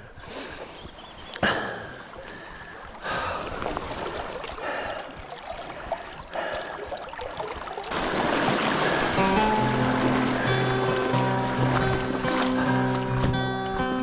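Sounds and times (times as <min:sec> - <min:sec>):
river water rippling over stones: 0:00.5 - 0:14.0.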